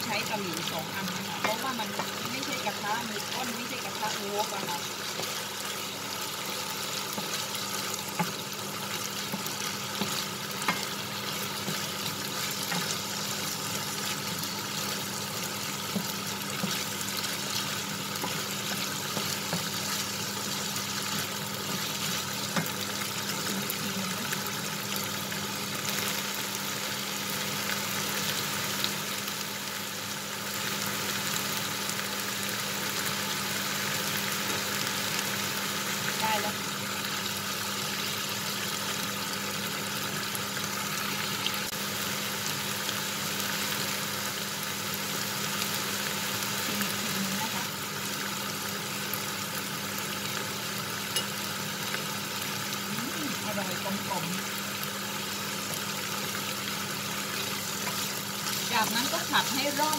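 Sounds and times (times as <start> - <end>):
meat sizzling in a frying pan: 0.0 - 59.9.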